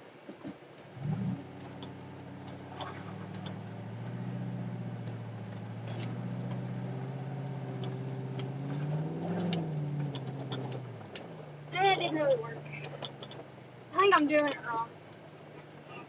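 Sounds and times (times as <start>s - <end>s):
car engine running at high revs: 0.0s - 16.0s.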